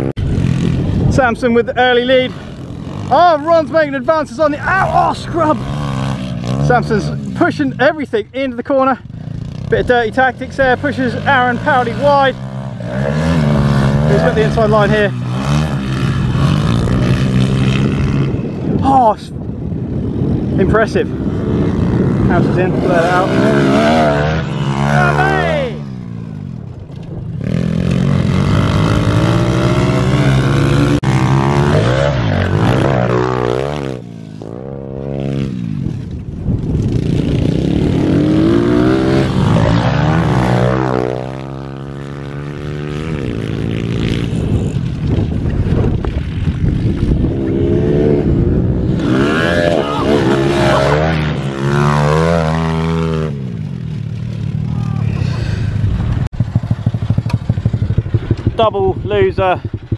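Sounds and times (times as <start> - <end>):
minibike engines at high revs: 0.0 - 59.9.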